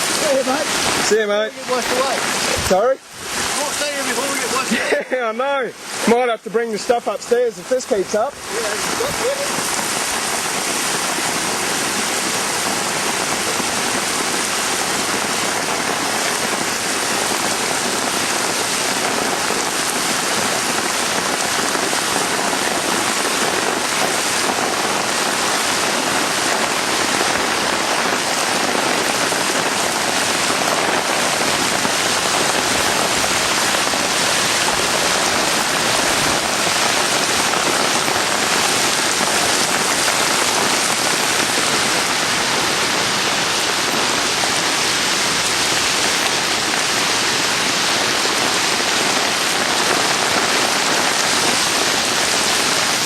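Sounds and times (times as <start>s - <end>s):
torrential rain: 0.0s - 53.0s.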